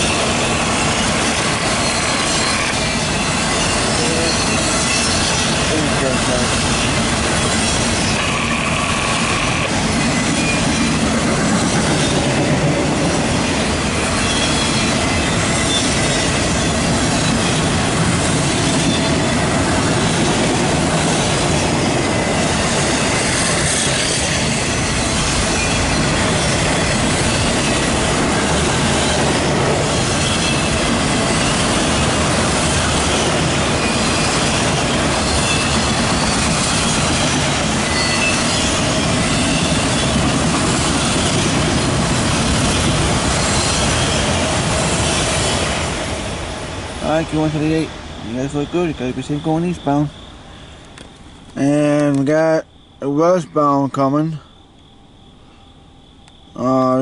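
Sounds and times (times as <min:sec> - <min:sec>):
high wheel squeal: 0:00.0 - 0:12.6, 0:13.3 - 0:45.7, 0:47.0 - 0:57.0
freight train wheels clattering: 0:00.0 - 0:49.5.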